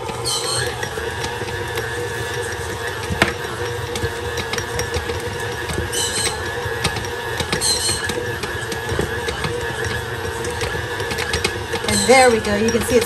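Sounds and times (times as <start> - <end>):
stand mixer motor hum: 0.0 - 13.0.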